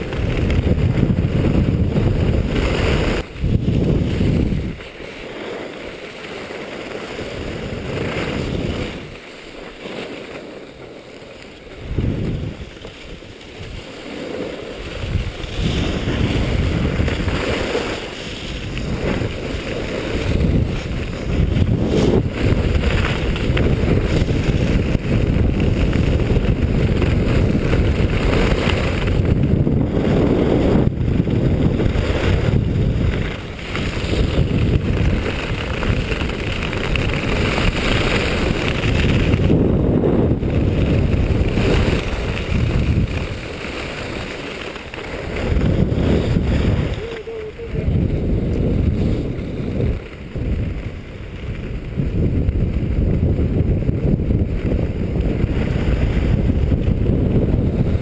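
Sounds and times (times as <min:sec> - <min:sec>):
skis scraping on packed snow: 0:00.0 - 0:58.0
wind rushing over microphone: 0:00.0 - 0:58.0.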